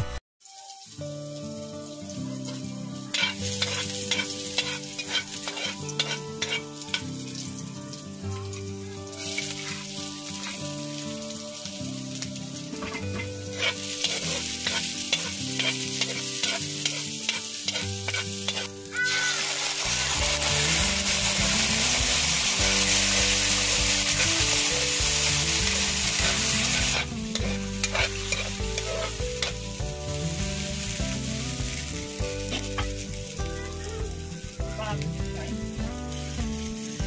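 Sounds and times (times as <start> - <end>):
garlic and onion sizzling: 0.0 - 37.0.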